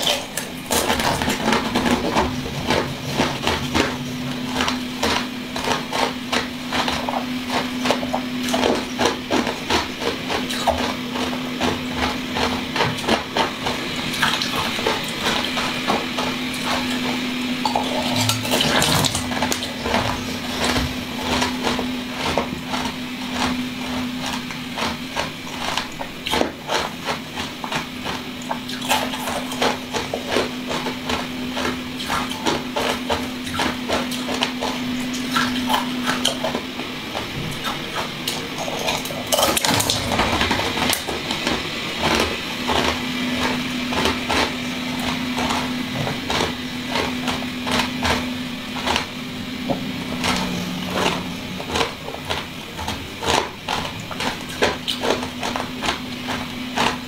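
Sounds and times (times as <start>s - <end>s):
wet chewing and squishing: 0.0s - 57.0s.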